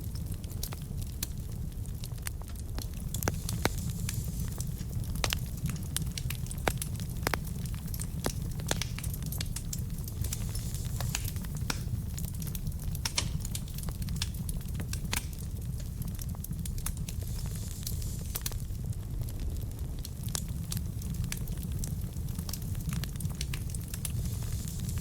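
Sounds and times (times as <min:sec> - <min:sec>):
burning logs crackling and popping: 0:00.0 - 0:25.0
fire flames rumbling: 0:00.0 - 0:25.0.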